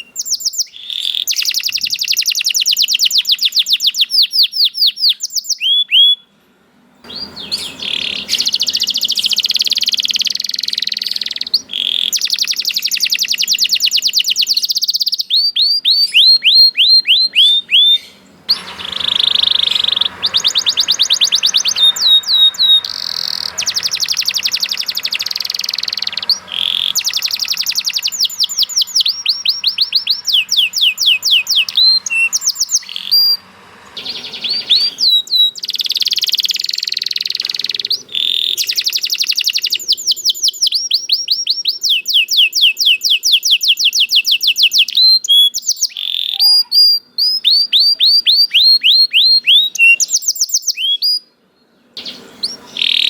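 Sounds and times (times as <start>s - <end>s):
canary singing: 0.0s - 6.4s, 7.0s - 53.0s.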